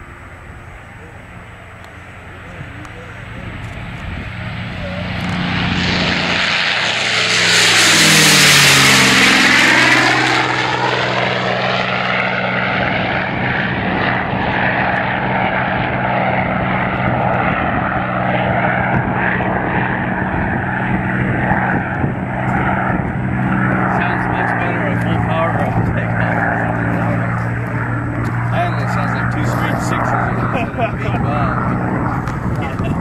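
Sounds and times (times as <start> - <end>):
propeller plane engine passing: 0.0 - 33.0.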